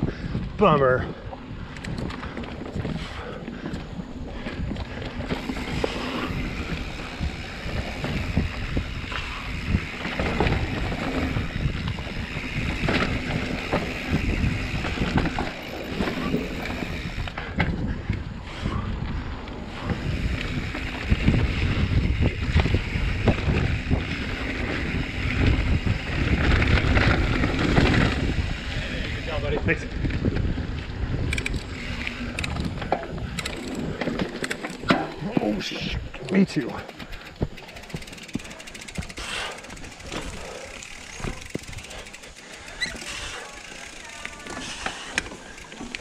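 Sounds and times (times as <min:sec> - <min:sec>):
wind buffeting microphone: 0:00.0 - 0:43.9
bike frame rattling: 0:00.0 - 0:46.0
bike tyres on dirt: 0:00.0 - 0:46.0.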